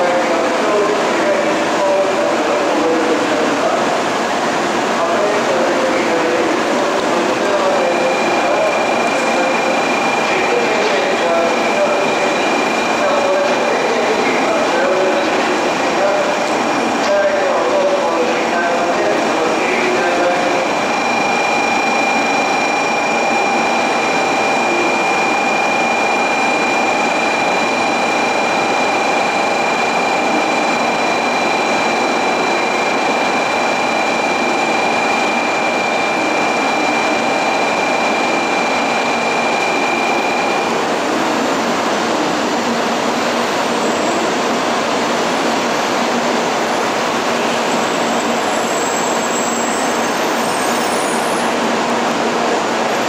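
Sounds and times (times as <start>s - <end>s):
train rumbling and hissing: 0.0s - 53.0s
high multi-tone whine: 5.0s - 53.0s.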